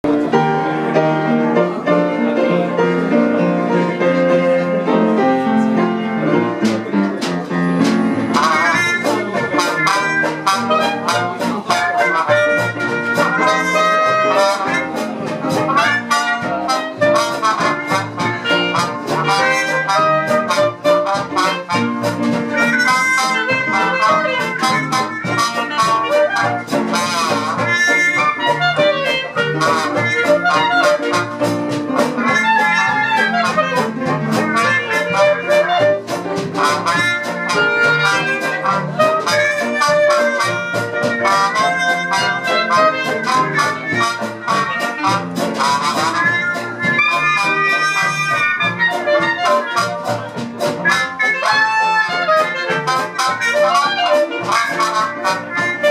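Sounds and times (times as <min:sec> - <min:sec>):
traditional jazz band playing: 0:00.0 - 0:55.9
horns playing melody: 0:00.2 - 0:55.9.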